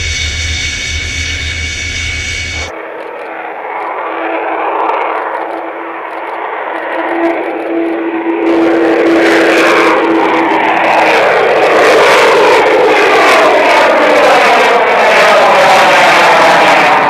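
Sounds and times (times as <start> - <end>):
jet aircraft passing by: 0.0 - 17.0.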